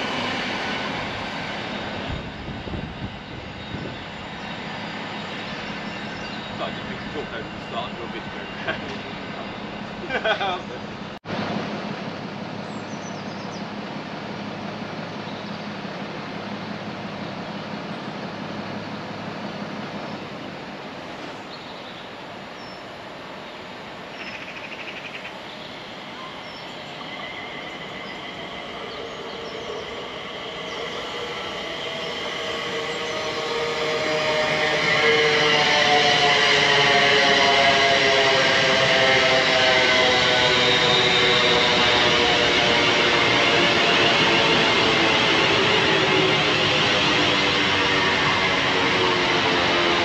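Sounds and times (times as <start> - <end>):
steady whine: 0.0 - 24.2, 25.3 - 50.0
train passing: 0.0 - 50.0.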